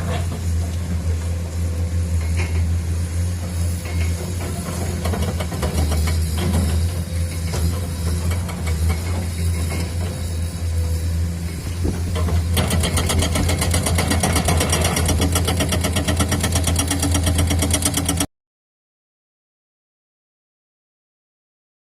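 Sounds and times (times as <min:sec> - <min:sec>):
diesel excavator engine running: 0:00.0 - 0:18.3.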